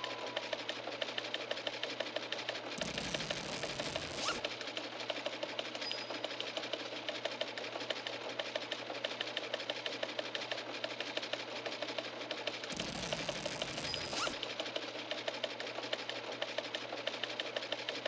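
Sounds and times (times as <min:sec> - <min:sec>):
rapid mechanical clicking rattle: 0:00.1 - 0:18.0.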